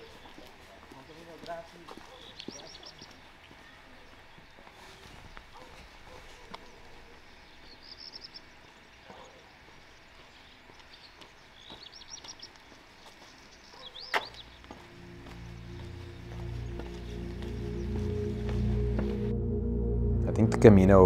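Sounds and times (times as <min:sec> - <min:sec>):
small birds chirping: 0:00.0 - 0:18.5.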